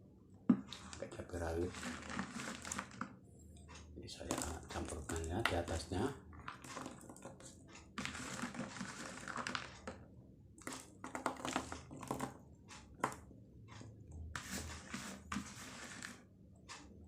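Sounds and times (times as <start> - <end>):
rustling and scraping: 0.5 - 10.0, 10.6 - 16.8.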